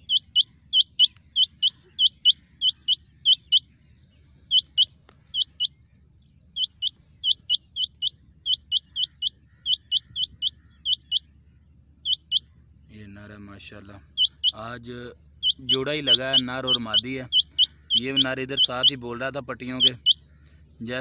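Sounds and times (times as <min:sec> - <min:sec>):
quail calling: 0:00.0 - 0:03.8, 0:04.4 - 0:05.8, 0:06.5 - 0:12.7, 0:14.0 - 0:21.0.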